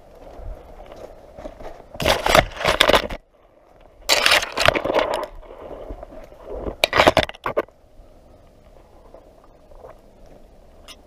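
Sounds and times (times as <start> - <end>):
leaves and twigs rustling: 0.0 - 11.0.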